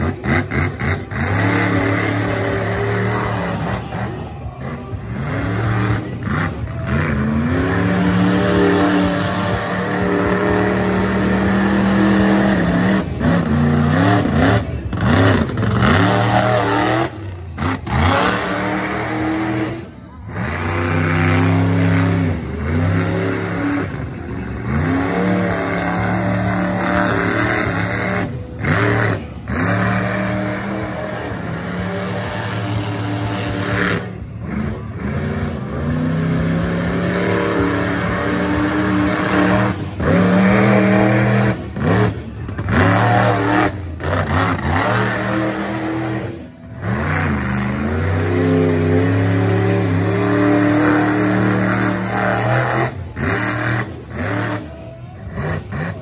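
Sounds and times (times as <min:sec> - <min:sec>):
monster truck engine revving: 0:00.0 - 0:56.0.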